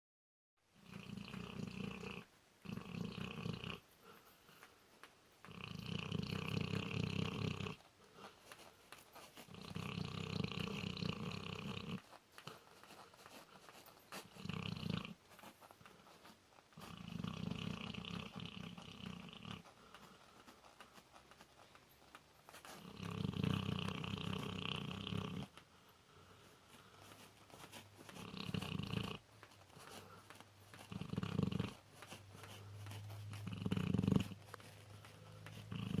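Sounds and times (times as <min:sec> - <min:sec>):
dog snoring: 0:00.7 - 0:04.2, 0:05.4 - 0:08.3, 0:09.4 - 0:15.6, 0:16.7 - 0:20.6, 0:22.5 - 0:36.0.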